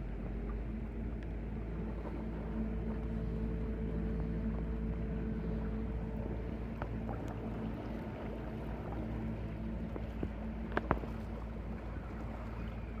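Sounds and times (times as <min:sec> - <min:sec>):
electric motor hum: 0:00.0 - 0:13.0
water noise: 0:00.0 - 0:13.0
wind: 0:00.0 - 0:13.0.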